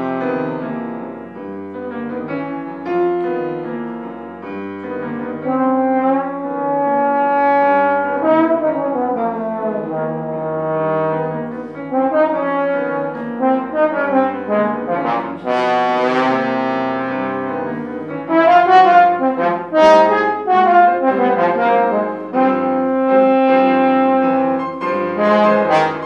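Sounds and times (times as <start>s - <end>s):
piano accompaniment: 0.0s - 26.0s
trombone solo melody: 4.8s - 26.0s.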